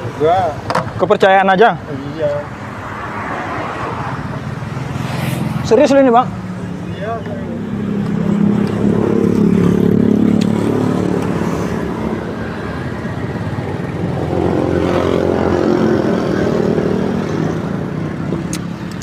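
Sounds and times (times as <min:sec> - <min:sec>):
motorcycles passing by: 0:00.0 - 0:19.0.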